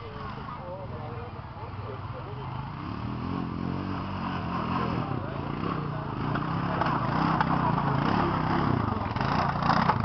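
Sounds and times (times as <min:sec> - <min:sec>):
quad bike engine revving: 0:01.8 - 0:10.0.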